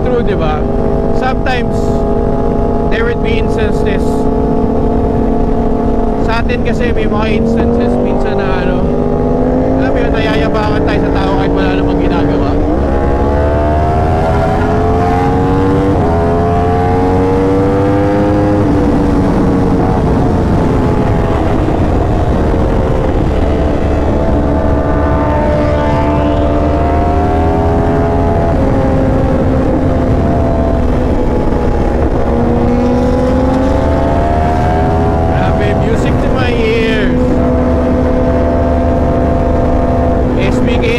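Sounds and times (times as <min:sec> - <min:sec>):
motorcycle engine revving: 0:00.0 - 0:40.9
wind rumble on microphone: 0:00.0 - 0:40.9.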